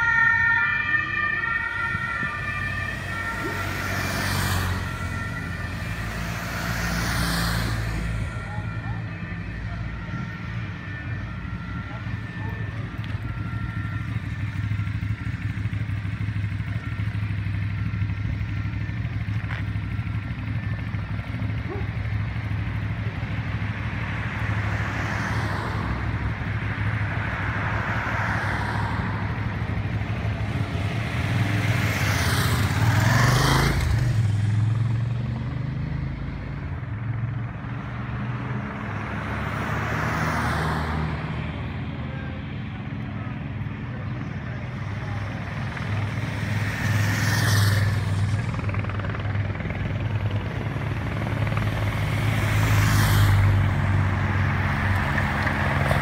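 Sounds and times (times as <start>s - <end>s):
motorcycles and cars driving past: 0.0s - 56.0s
steady engine hum: 0.0s - 56.0s.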